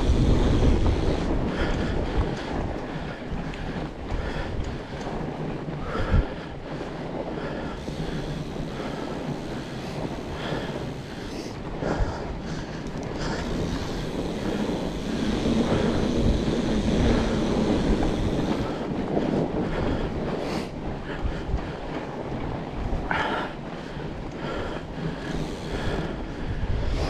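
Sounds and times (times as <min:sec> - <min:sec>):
bike rolling noise: 0:00.0 - 0:27.0
wind rushing over microphone: 0:00.0 - 0:27.0.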